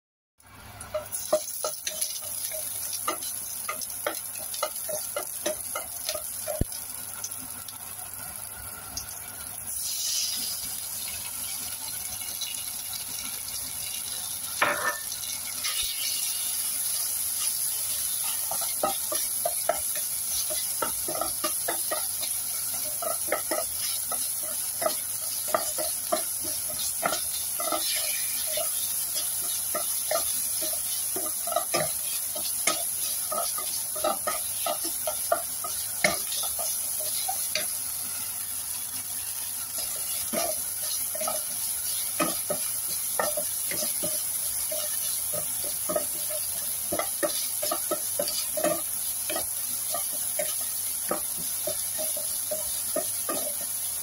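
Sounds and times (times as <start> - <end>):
meat sizzling in hot oil: 0.4 - 54.0
spatula scraping a pan: 0.9 - 6.7, 14.6 - 38.4, 39.2 - 54.0.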